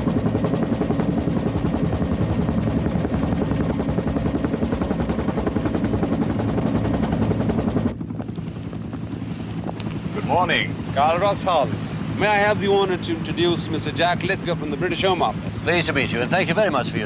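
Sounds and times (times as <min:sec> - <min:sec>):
helicopter rotor beating: 0:00.0 - 0:17.0.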